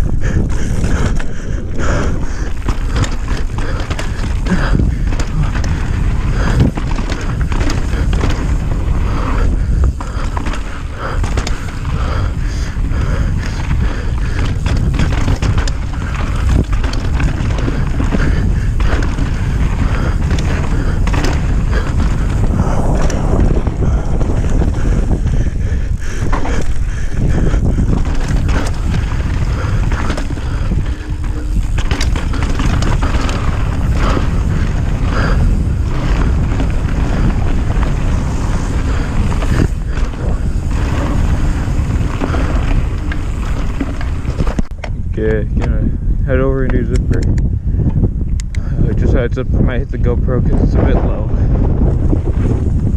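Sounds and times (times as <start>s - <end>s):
bike rattling and knocking: 0.0s - 52.9s
bike tyre noise: 0.0s - 52.9s
wind noise on microphone: 0.0s - 52.9s.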